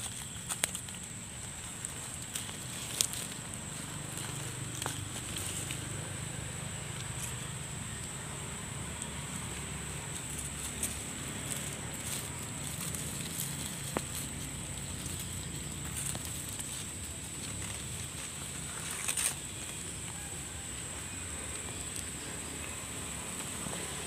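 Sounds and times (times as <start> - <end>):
dry leaves crackling and rustling: 0.0 - 24.0.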